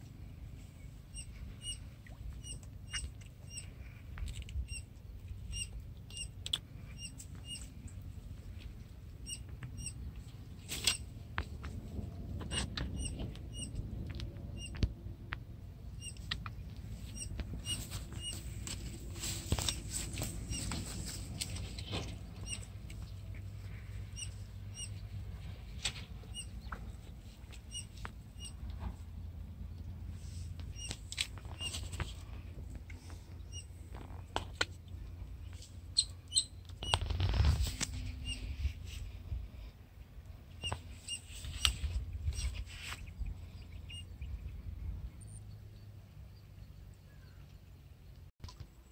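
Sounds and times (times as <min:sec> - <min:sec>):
steady low rumble: 0:00.0 - 0:45.8.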